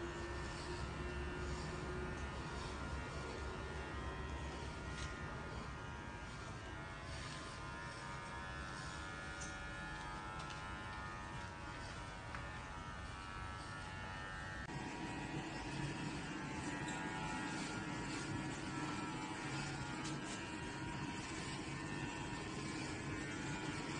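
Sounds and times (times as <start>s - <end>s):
electric hair clippers buzzing: 0.0s - 23.9s.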